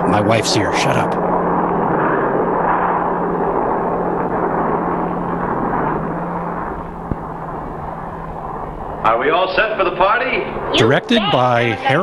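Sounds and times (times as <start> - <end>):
constant low hum: 0.0 - 12.0
propeller airliner engine: 0.0 - 12.0.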